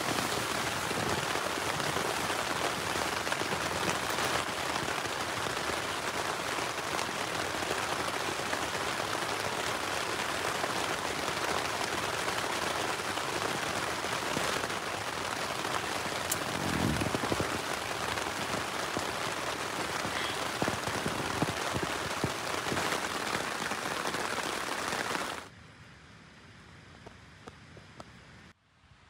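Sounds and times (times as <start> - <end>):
rain pattering on tent fabric: 0.0 - 25.5.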